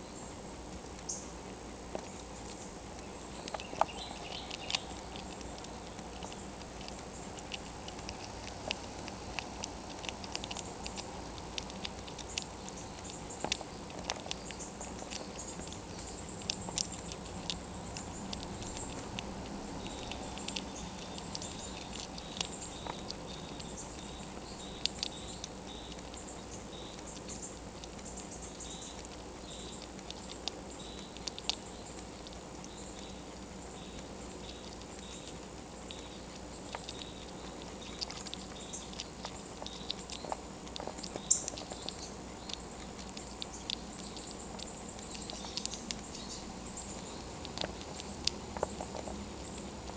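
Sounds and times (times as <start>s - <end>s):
squirrel gnawing an acorn: 0.0s - 49.9s
steady low hum: 0.0s - 49.9s.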